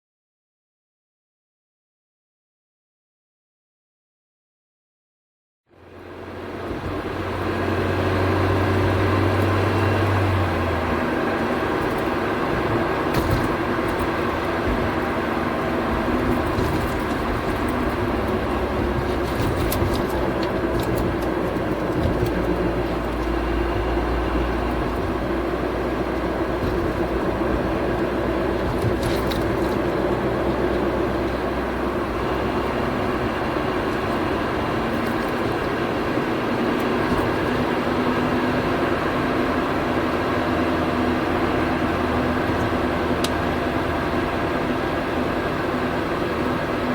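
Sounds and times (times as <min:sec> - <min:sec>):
wheel bearing rumbling and growling: 0:06.2 - 0:46.9.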